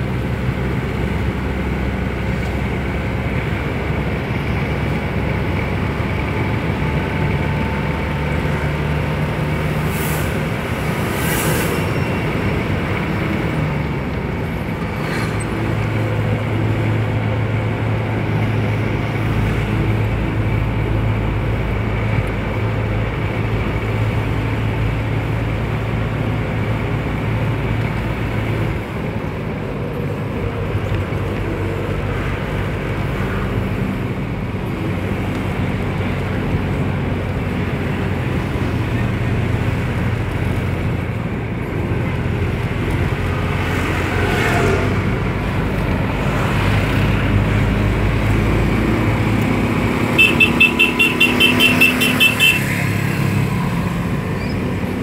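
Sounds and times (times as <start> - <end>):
engine hum: 0.0 - 55.0
vehicle road noise: 0.0 - 55.0.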